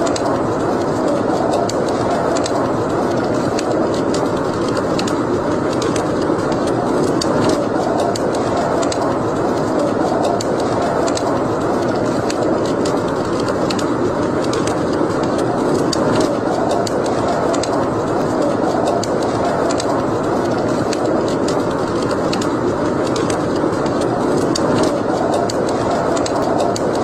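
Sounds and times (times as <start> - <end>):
crackles and pops of burning wood: 0.0 - 27.0
rushing flames: 0.0 - 27.0.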